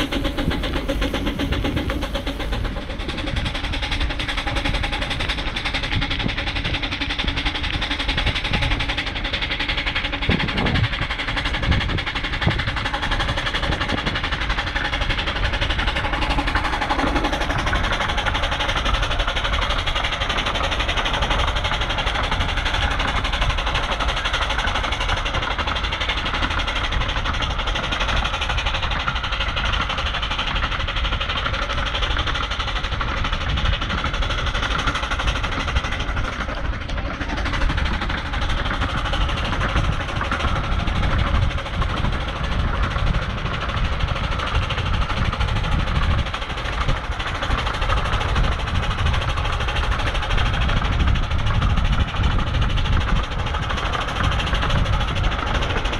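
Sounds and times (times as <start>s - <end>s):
steam locomotive exhaust: 0.0s - 55.9s.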